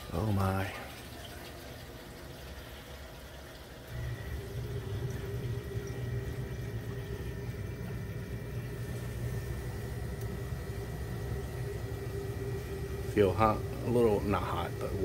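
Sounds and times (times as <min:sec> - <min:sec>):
machine humming with faint high tone: 0:00.0 - 0:15.0
water moving through pipes: 0:00.0 - 0:15.0.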